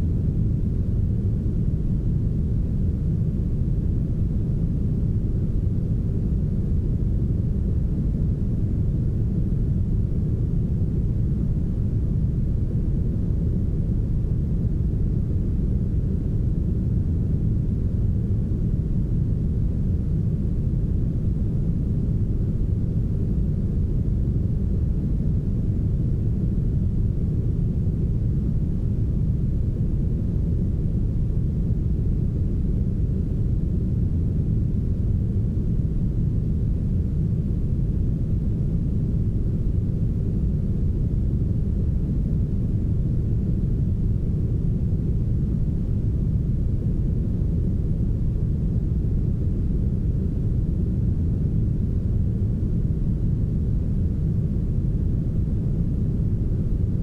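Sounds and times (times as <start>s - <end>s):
deep brown noise rumble: 0.0s - 57.0s.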